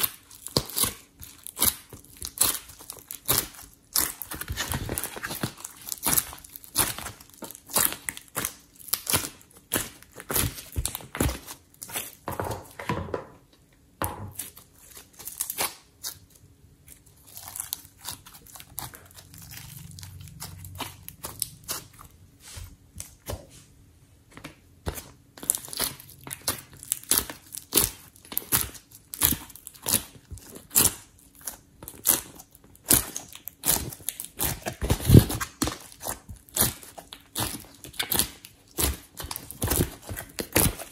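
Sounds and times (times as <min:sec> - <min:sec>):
slime squeezed crackling and popping: 0:00.0 - 0:12.2, 0:14.4 - 0:22.2, 0:24.9 - 0:40.9.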